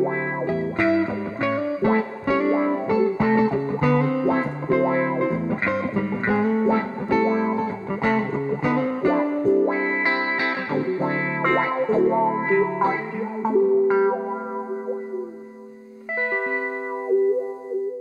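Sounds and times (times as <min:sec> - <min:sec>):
electric guitar through amplifier: 0:00.0 - 0:18.0.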